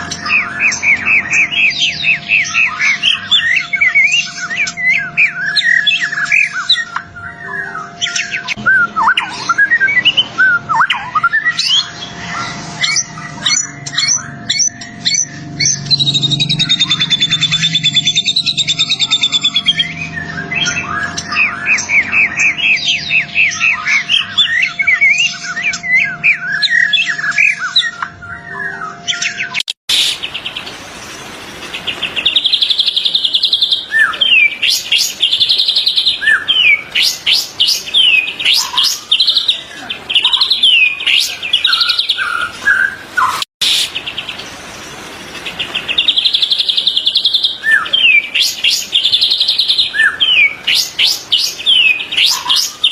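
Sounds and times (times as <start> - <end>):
bird singing whistles and trills: 0.0 - 30.7, 31.8 - 44.5, 45.5 - 52.9.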